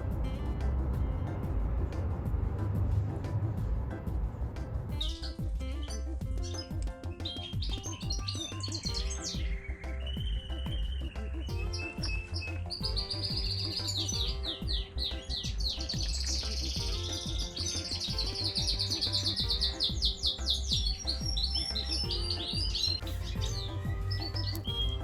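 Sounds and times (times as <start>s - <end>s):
background music with low beat: 0.0s - 25.0s
small birds chirping: 0.0s - 25.0s.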